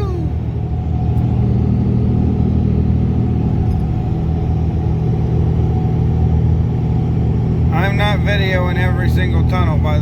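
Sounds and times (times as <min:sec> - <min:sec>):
vehicle engine and tyres droning: 0:00.0 - 0:10.0.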